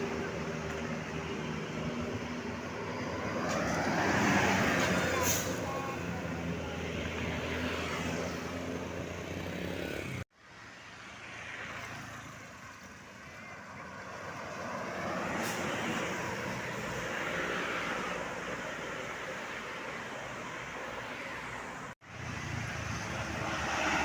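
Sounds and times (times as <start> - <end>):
road traffic passing by: 0.0 - 24.0.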